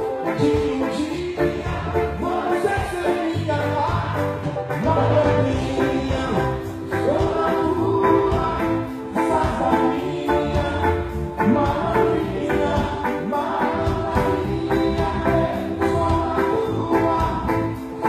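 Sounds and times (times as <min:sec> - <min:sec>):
person singing lead vocals: 0:00.0 - 0:18.0
reggae band playing: 0:00.0 - 0:18.0.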